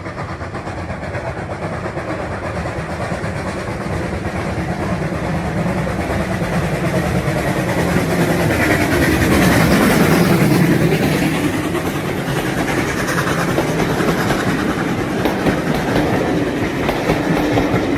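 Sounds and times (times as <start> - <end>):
steam train rumbling: 0.0 - 17.9.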